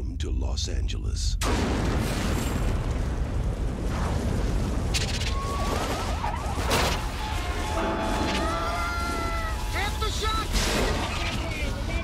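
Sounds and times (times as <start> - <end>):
building crashing: 1.4 - 12.0.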